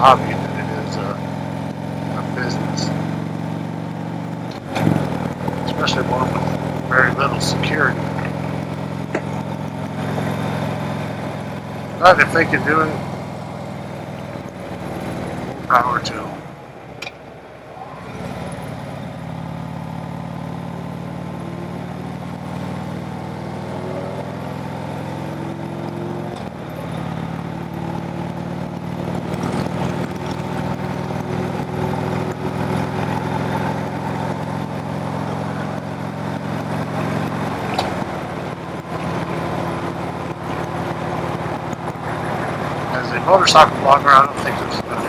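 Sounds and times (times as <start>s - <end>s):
motorcycle engine running: 0.0s - 17.1s, 18.0s - 45.0s.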